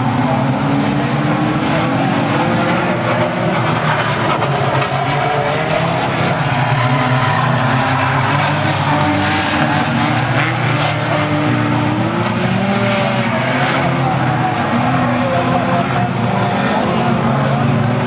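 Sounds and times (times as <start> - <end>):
race car engines revving: 0.0 - 18.0
tyres skidding: 0.0 - 18.0.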